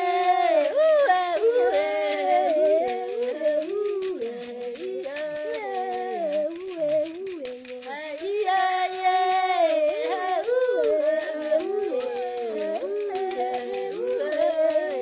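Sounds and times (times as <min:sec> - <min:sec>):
light percussion: 0:00.0 - 0:15.0
voices singing in harmony: 0:00.0 - 0:15.0.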